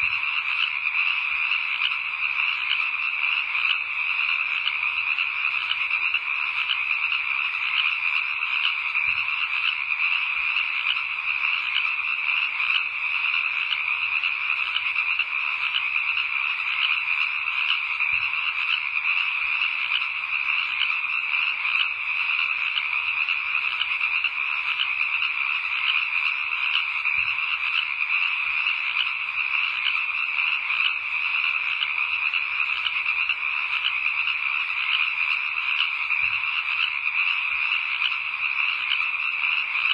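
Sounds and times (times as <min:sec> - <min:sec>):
frogs trilling chorus: 0:00.0 - 0:39.9.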